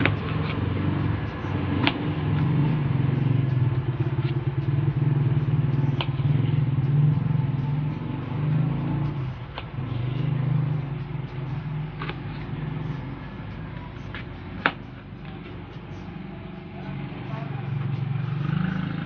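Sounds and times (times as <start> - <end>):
low pulsing motor drone: 0.0 - 19.0.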